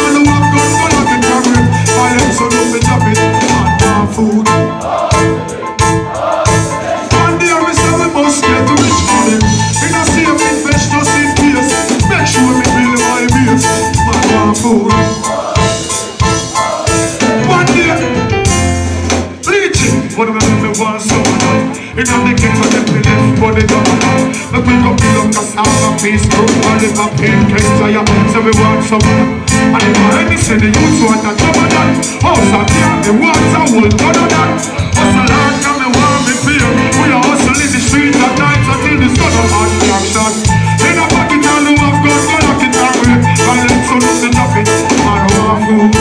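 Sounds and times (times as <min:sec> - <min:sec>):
man singing into a microphone: 0:00.0 - 0:04.9, 0:07.0 - 0:15.8, 0:17.2 - 0:18.4, 0:19.4 - 0:46.0
reggae band playing: 0:00.0 - 0:46.0.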